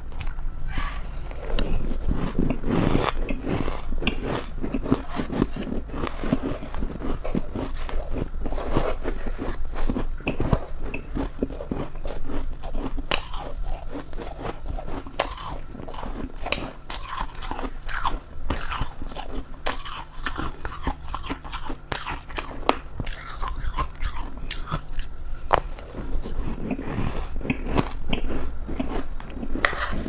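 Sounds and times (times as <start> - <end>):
mouth chewing crunchy frost: 0.1 - 30.0.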